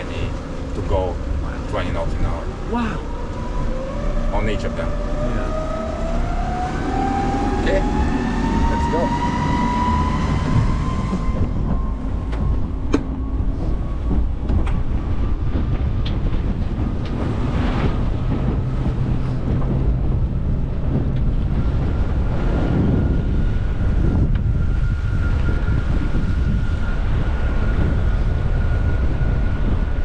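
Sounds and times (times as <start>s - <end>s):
water streaming past hull: 0.0s - 30.0s
wind on microphone: 0.0s - 30.0s.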